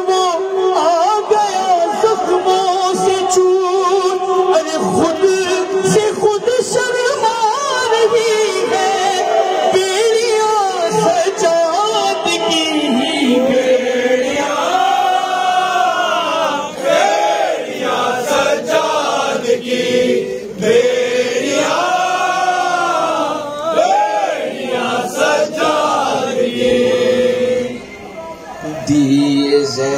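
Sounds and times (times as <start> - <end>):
men chanting a lament: 0.0 - 29.9.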